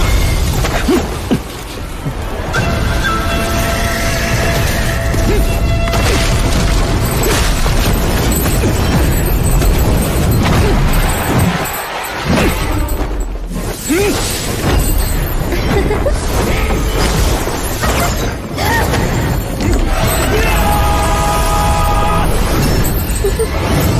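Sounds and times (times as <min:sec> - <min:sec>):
dramatic background music: 0:00.0 - 0:23.9
battle booms and crashes: 0:04.4 - 0:23.9.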